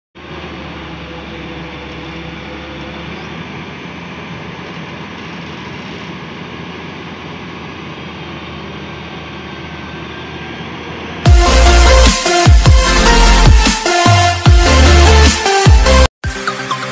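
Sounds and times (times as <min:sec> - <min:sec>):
excavator diesel engine running: 0:00.2 - 0:16.1.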